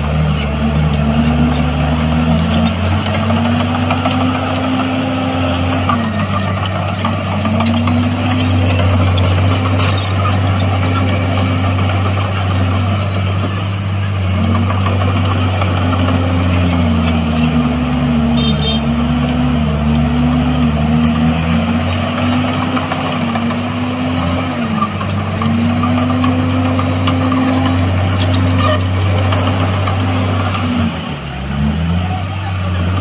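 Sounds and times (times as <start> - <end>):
bulldozer diesel engine revving: 0.0 - 33.0.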